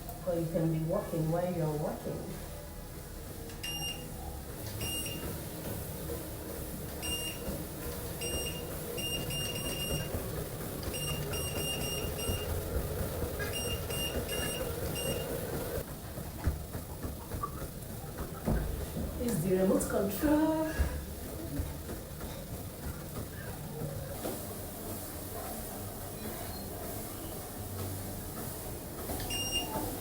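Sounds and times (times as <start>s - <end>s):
treadmill motor humming: 0.0s - 30.0s.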